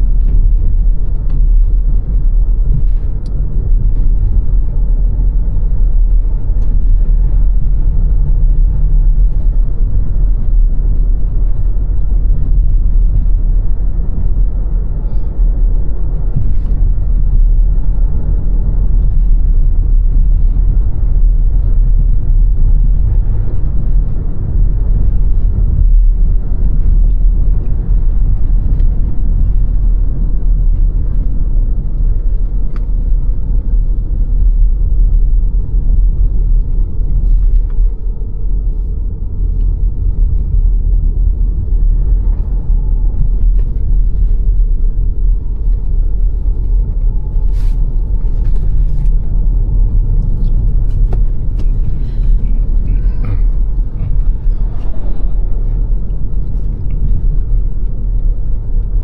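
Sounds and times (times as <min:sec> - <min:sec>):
car engine: 0:00.0 - 0:59.0
tyres rumbling on road: 0:00.0 - 0:59.0.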